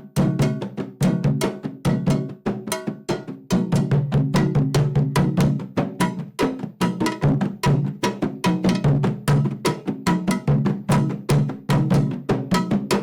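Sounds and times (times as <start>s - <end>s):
hand drums playing fast rhythm: 0.0s - 13.0s.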